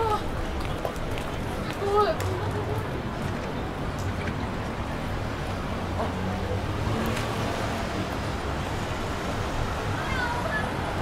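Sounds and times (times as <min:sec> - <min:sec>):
faint voices of passers-by: 0:00.0 - 0:11.0
traffic rumble: 0:00.0 - 0:11.0.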